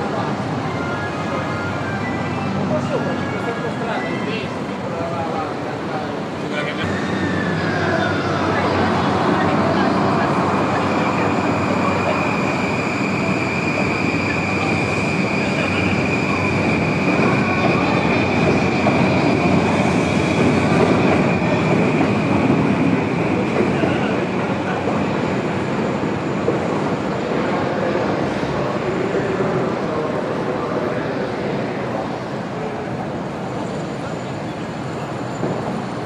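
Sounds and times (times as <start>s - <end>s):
train wheels rumbling on rails: 5.5s - 36.0s.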